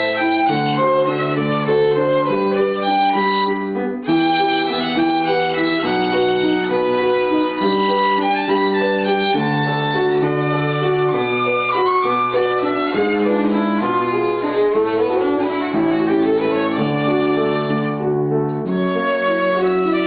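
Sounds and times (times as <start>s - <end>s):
piano accompaniment: 0.0s - 20.0s
violin melody: 0.0s - 20.0s.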